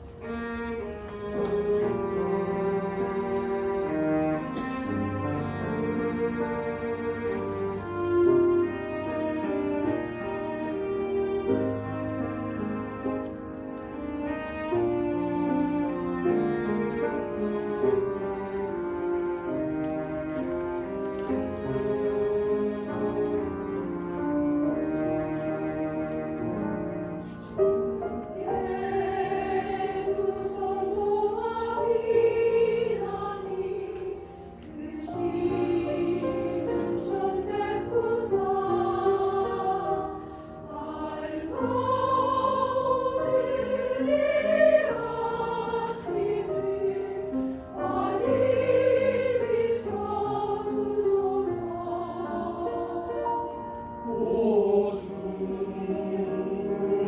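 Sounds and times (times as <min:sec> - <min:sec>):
church choir singing: 0:00.0 - 0:57.0
piano accompaniment: 0:00.0 - 0:57.0.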